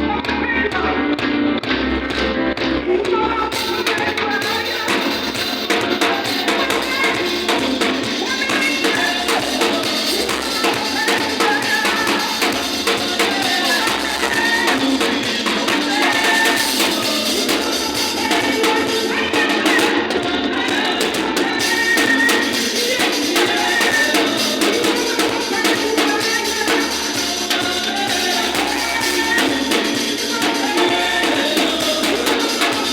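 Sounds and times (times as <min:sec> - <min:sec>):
drums: 0:00.0 - 0:32.9
keyboard: 0:00.0 - 0:32.9
voices singing: 0:02.8 - 0:32.9
gospel band playing: 0:03.5 - 0:32.9.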